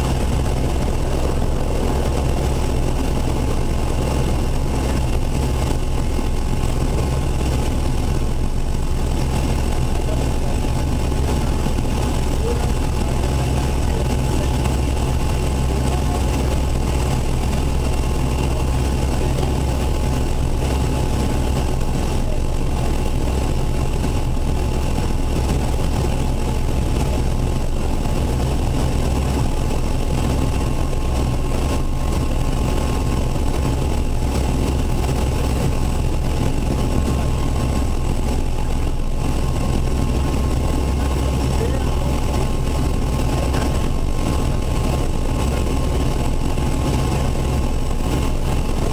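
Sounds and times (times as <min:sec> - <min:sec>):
helicopter engines and rotor running: 0:00.0 - 0:48.9.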